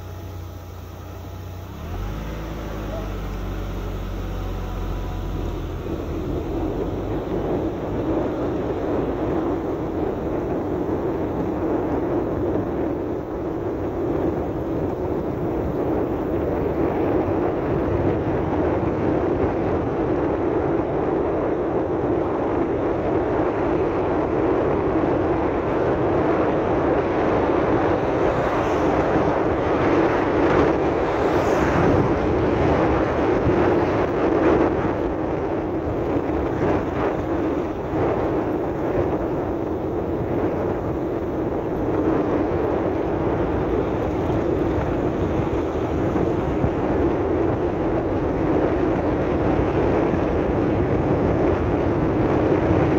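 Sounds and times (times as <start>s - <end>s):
vehicle driving on dirt road: 0.0s - 52.9s.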